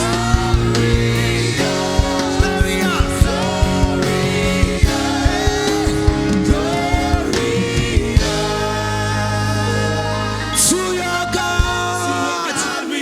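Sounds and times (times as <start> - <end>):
steady drum beat: 0.0 - 12.2
gospel singing: 0.0 - 13.0
held keyboard chords: 0.0 - 13.0.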